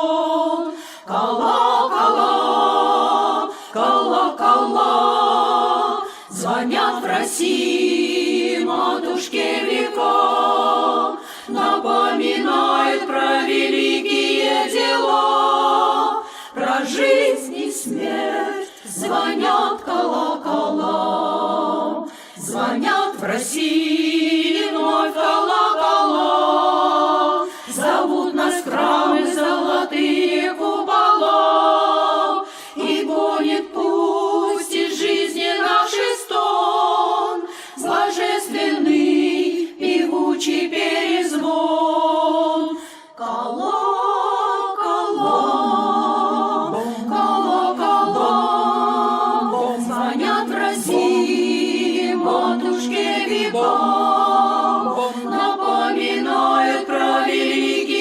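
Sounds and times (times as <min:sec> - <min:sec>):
women's vocal ensemble singing: 0:00.0 - 0:58.0.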